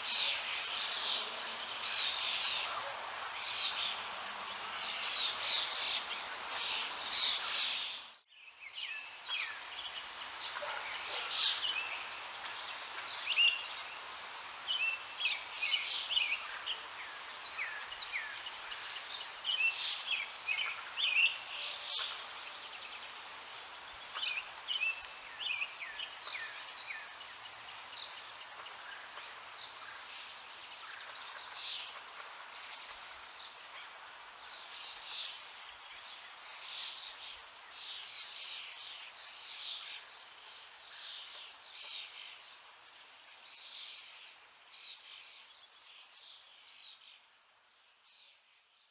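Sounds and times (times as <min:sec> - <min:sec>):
running water hiss: 0:00.0 - 0:47.2.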